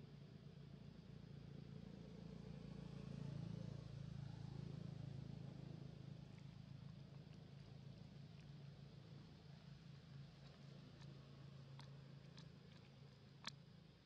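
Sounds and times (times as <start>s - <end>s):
distant engine hum: 0.0s - 14.0s.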